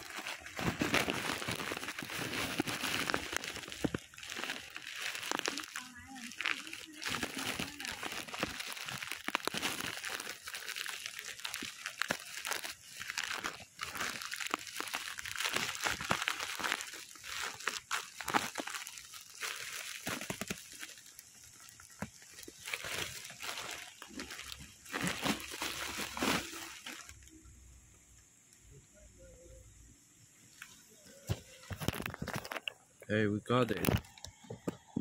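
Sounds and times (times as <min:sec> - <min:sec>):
packaging crinkling: 0:00.0 - 0:27.3, 0:31.3 - 0:32.8, 0:33.7 - 0:34.9.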